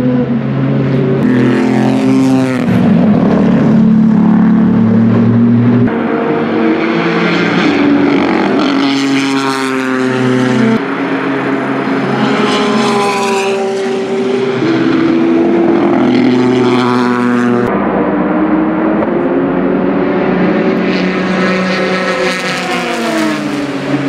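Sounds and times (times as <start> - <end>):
race car engine at full speed: 0.0 - 24.0.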